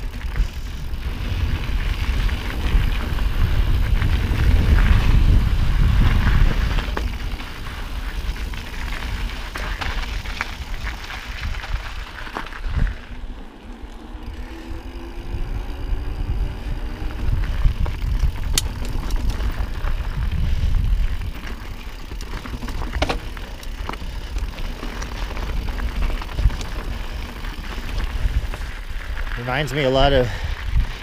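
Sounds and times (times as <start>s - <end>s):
wind on microphone: 0.0s - 13.4s, 14.1s - 31.0s
bike clicks and rattles: 0.0s - 31.0s
tyres rolling on dirt: 0.0s - 31.0s.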